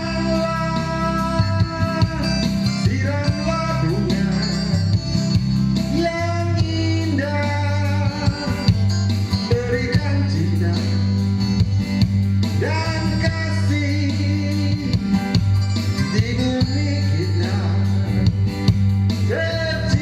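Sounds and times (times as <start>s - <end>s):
pop ballad: 0.0s - 20.0s.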